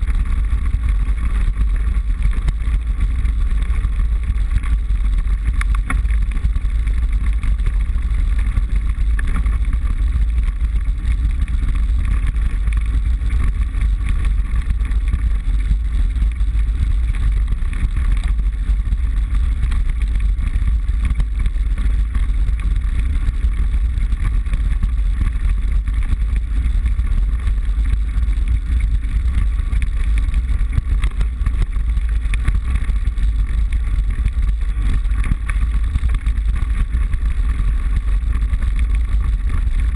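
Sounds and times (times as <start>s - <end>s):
bike tyres and frame rumbling: 0.0s - 39.9s.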